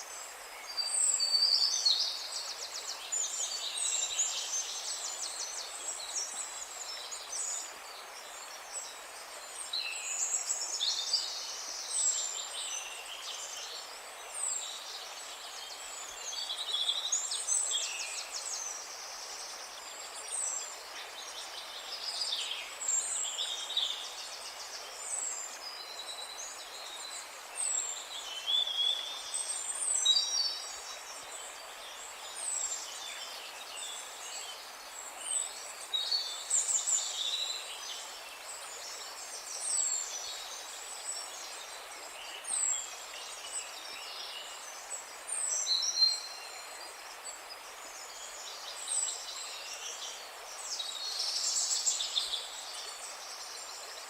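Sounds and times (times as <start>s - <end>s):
faint hiss: 0.0s - 54.0s
songbirds singing: 0.0s - 54.0s.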